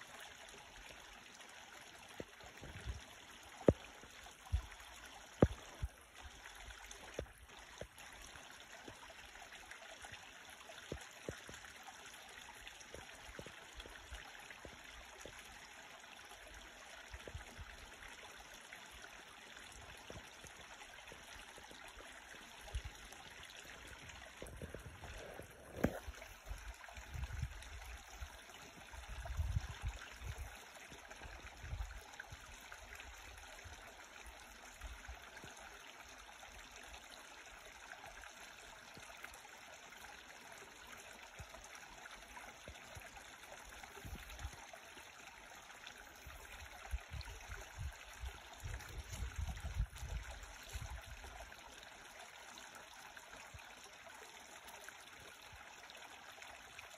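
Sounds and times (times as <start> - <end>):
creek trickling over rocks: 0.0 - 56.9.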